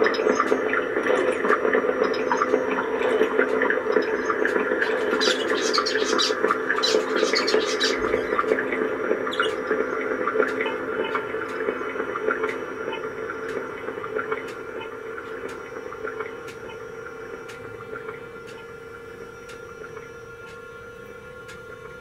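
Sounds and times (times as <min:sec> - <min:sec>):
electronic chirps and crackles: 0:00.0 - 0:20.6
electronic humming drone: 0:00.0 - 0:22.0.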